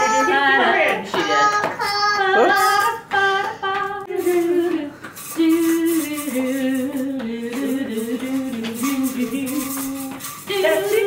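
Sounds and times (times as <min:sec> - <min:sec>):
high voice singing: 0:00.0 - 0:11.0.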